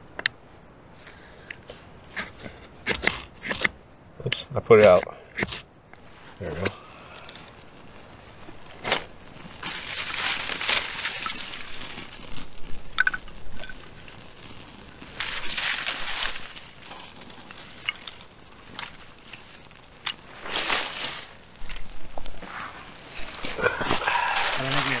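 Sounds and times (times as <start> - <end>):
twigs crackling in fire: 0.0 - 25.0.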